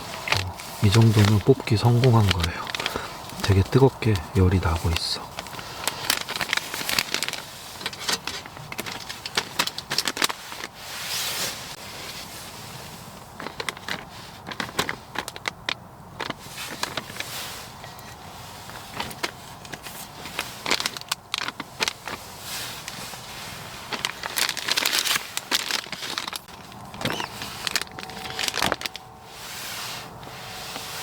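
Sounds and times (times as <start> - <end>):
pouch handling clicks and crackles: 0.0 - 29.2.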